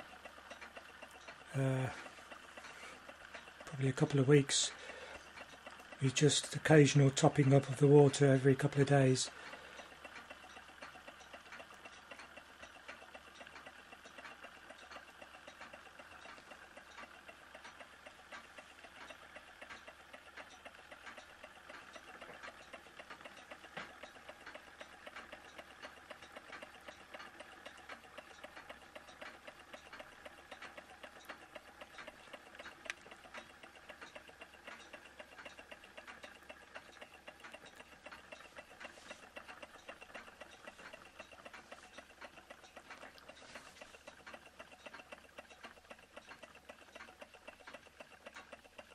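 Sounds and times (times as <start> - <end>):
model engines ticking: 0.0 - 48.9.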